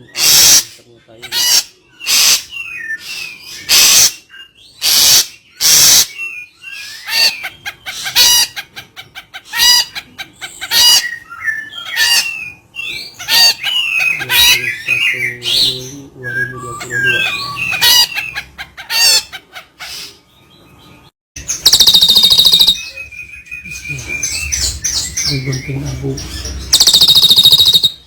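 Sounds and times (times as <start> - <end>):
bird screeching and calling: 0.0 - 20.4, 21.4 - 28.0.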